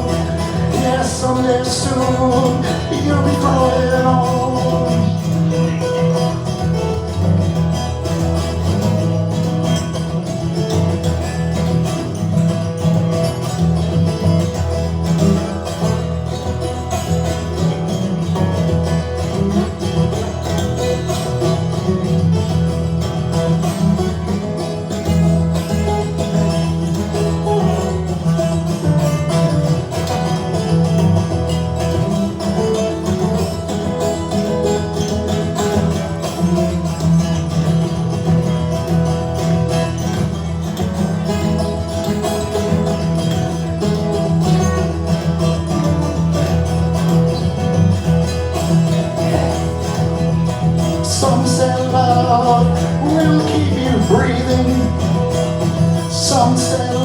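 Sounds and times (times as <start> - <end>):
country acoustic instrumental: 0.0 - 57.0.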